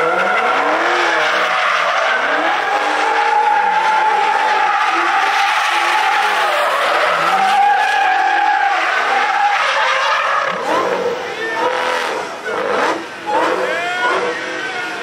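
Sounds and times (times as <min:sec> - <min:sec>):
car engine revving: 0:00.0 - 0:15.0
car tyres squealing: 0:00.0 - 0:15.0.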